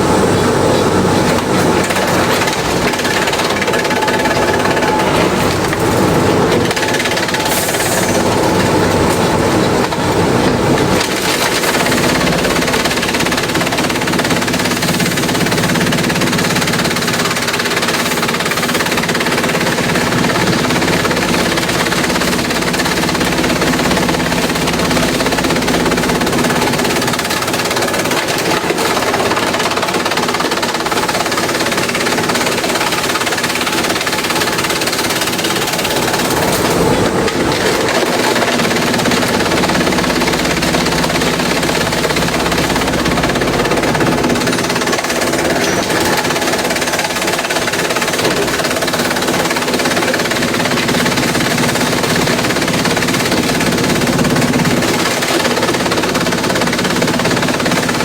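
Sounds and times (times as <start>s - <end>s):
bamboo shredder shredding: 0.0s - 58.0s
machine hum: 0.0s - 58.0s.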